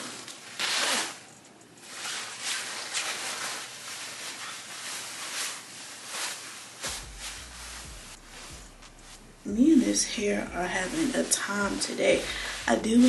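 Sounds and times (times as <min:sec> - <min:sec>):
puffer coat rustling: 0:00.0 - 0:13.0.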